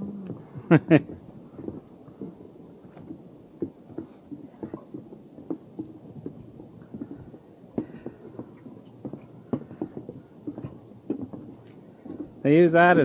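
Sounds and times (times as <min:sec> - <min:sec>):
footsteps on forest trail: 0:00.7 - 0:13.0.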